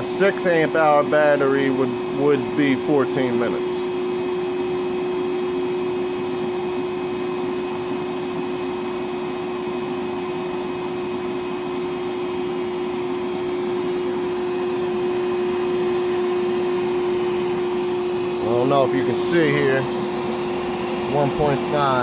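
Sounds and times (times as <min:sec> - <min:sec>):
shop vacuum running: 0:00.0 - 0:22.0.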